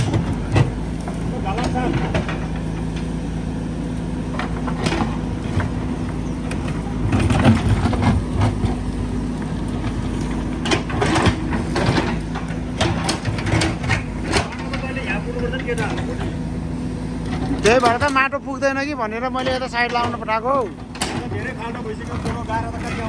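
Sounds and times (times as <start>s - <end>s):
knocks and clatter of work: 0.0s - 3.2s, 4.2s - 16.5s, 17.2s - 23.0s
machine engine humming: 0.0s - 23.0s.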